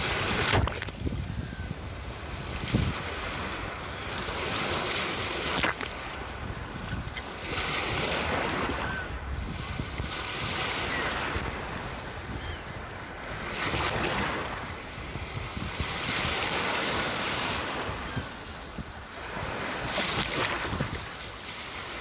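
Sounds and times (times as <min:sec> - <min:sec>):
sea waves washing onto shore: 0:00.0 - 0:22.0.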